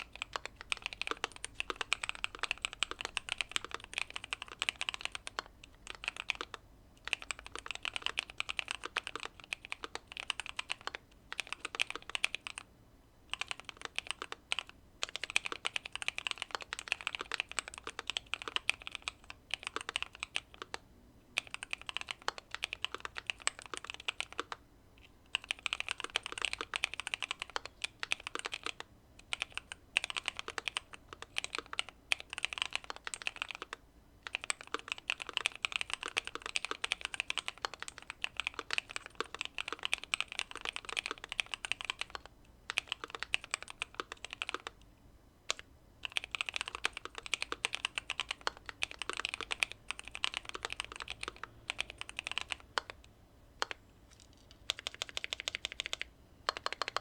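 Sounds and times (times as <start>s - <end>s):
mechanical keyboard typing: 0.0s - 12.7s, 13.3s - 20.8s, 21.4s - 44.8s, 45.5s - 57.0s.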